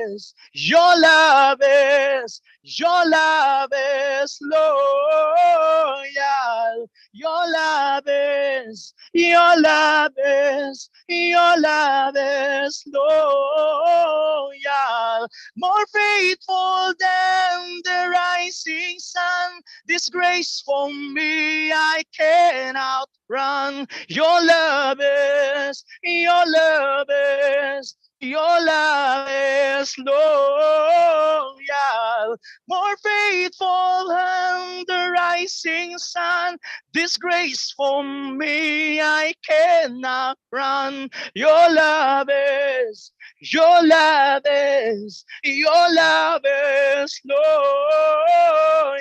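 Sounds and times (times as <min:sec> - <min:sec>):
person singing unaccompanied: 0:00.0 - 0:49.0.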